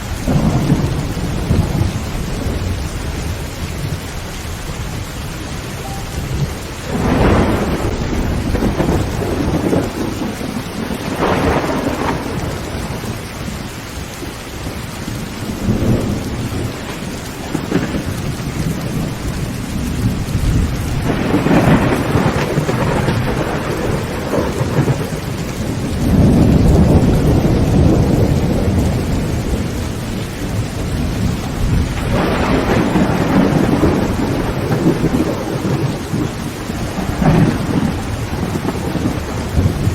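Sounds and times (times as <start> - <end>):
thunder rolling: 0.0 - 4.1, 4.7 - 13.6, 14.6 - 39.9
heavy rain on a tin roof: 0.0 - 39.9.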